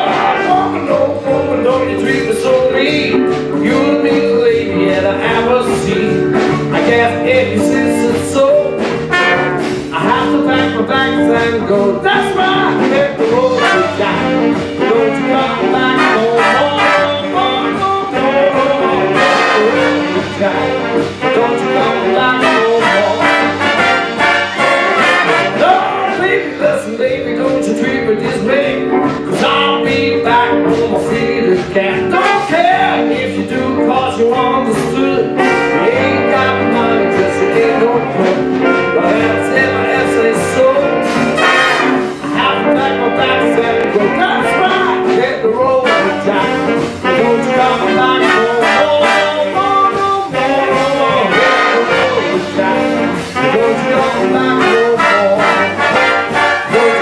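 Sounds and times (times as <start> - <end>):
big band playing jazz: 0.0 - 57.0
man singing into microphone: 0.0 - 57.0.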